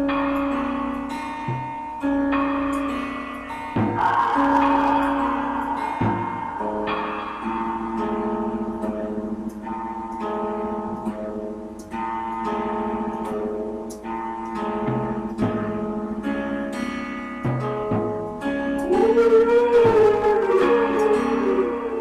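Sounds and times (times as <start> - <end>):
slow metal guitar chords ringing: 0.0 - 22.0.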